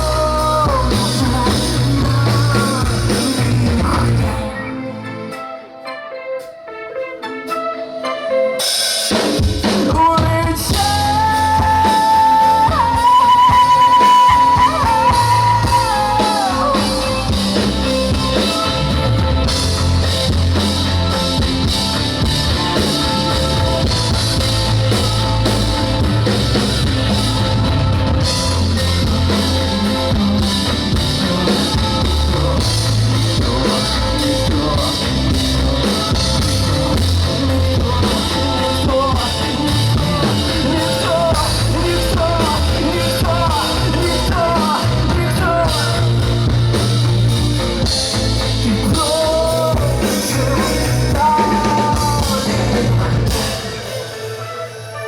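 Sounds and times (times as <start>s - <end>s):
live rock band: 0.0s - 55.0s
bending melody line: 10.2s - 55.0s.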